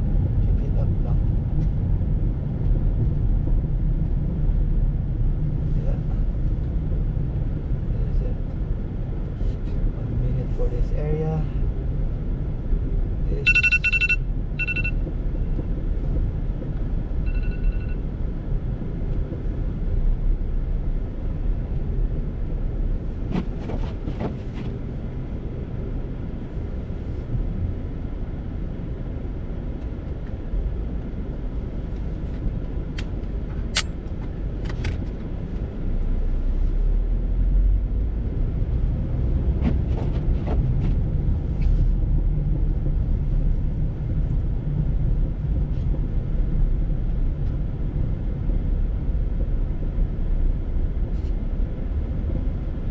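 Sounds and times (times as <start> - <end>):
car interior rumble: 0.0 - 52.9.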